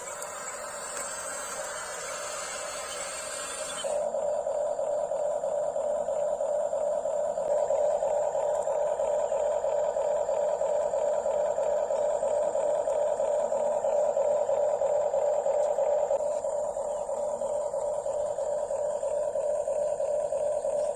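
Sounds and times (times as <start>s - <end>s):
electric motor and gearbox whirring: 0.0s - 20.9s
faint high whine: 0.0s - 20.9s.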